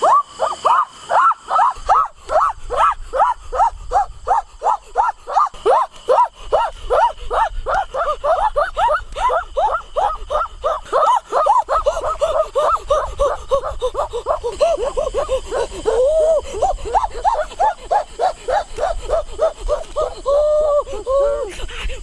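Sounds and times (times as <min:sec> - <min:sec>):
child yelping: 0:00.0 - 0:21.6.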